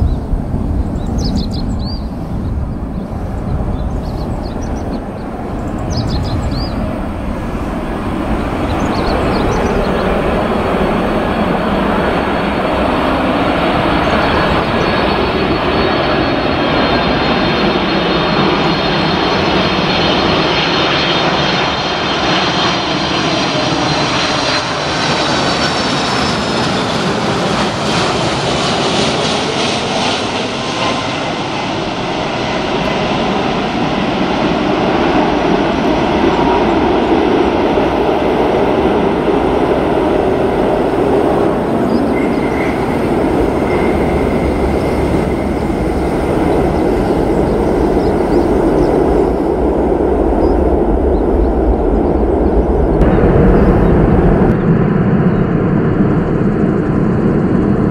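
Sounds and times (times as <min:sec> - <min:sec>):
deep rumble of landing plane: 0:00.0 - 0:57.9
jet engines roaring: 0:00.0 - 0:57.9.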